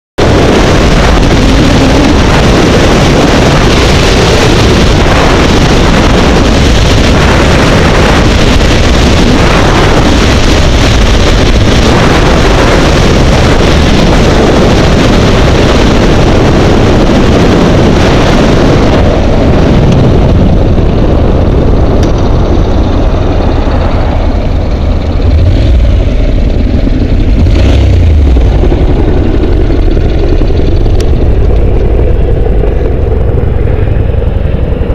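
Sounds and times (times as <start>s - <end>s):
motorcycle engine: 0.2s - 34.9s
wind noise on microphone: 0.2s - 34.9s.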